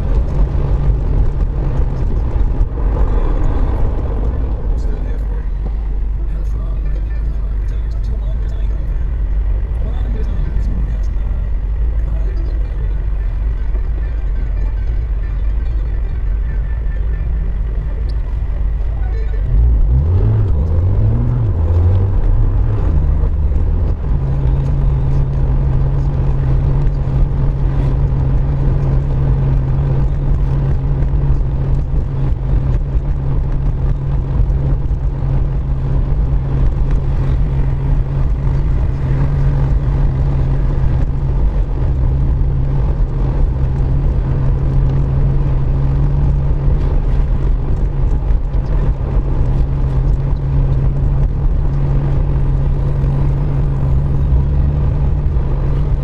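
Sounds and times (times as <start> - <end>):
car engine accelerating: 0.0 - 56.0
tyre noise on wet road: 0.0 - 56.0.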